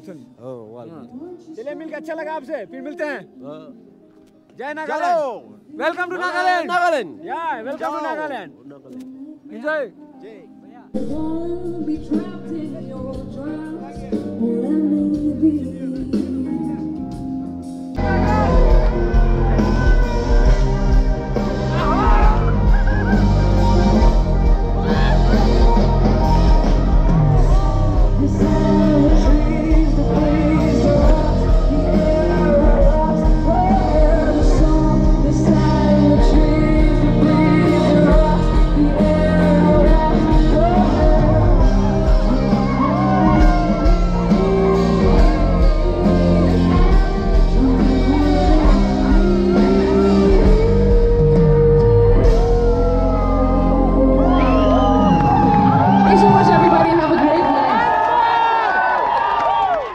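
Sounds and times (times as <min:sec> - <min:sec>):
keyboard: 0:00.0 - 0:59.9
person singing: 0:08.9 - 0:56.8
bass: 0:11.0 - 0:59.9
drums: 0:11.0 - 0:59.9
electric guitars: 0:11.0 - 0:59.9.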